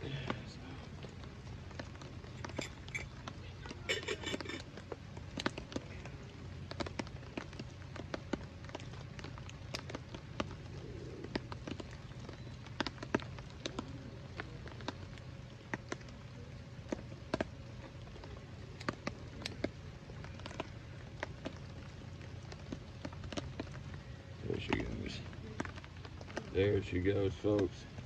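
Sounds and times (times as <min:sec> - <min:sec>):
water drops tapping on leaves: 0:00.0 - 0:28.0.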